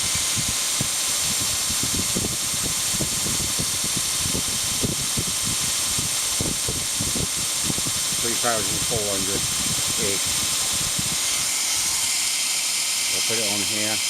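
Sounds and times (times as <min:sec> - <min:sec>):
belt grinder running: 0:00.0 - 0:14.0.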